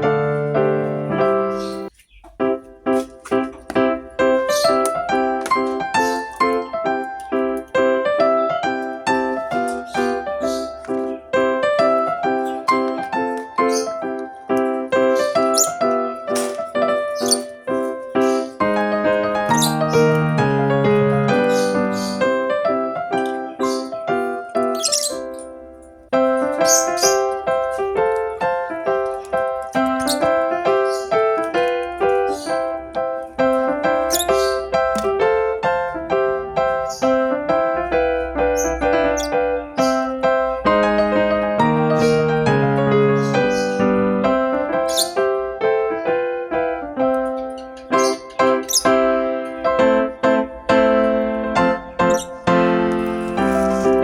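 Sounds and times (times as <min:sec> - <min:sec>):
piano single notes: 0:00.0 - 0:54.0.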